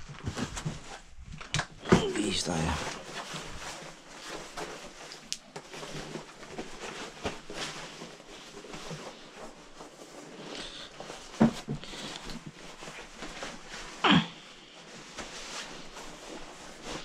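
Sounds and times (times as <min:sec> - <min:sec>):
clothes rustling: 0:00.0 - 0:17.0.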